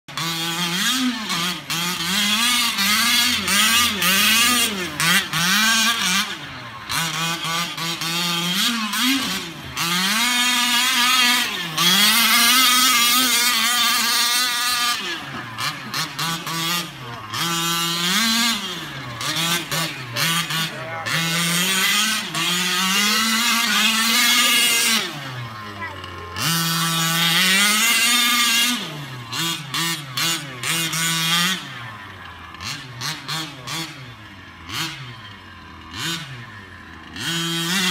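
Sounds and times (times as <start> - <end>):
radio-controlled car motor revving: 0.1 - 37.9.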